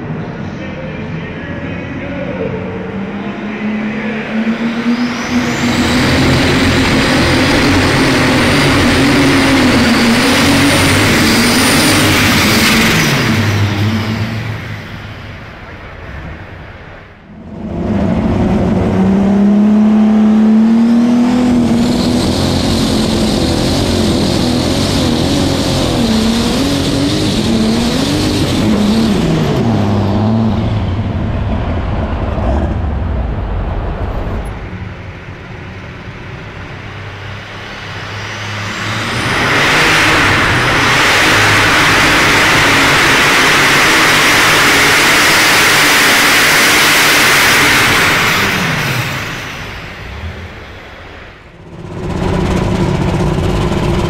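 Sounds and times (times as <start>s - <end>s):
pulling tractor engine at full throttle: 0.0s - 54.0s.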